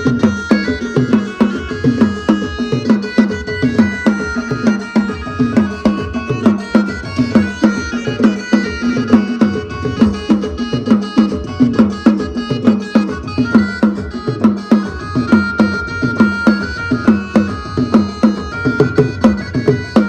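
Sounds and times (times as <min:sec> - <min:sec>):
fast drum beat: 0:00.0 - 0:20.0
keyboard melody: 0:00.9 - 0:20.0.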